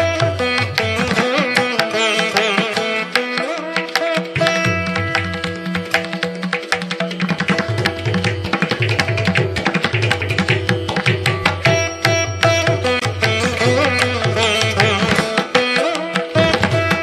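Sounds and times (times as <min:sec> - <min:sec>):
instrumental music with fast drums: 0:00.0 - 0:17.0.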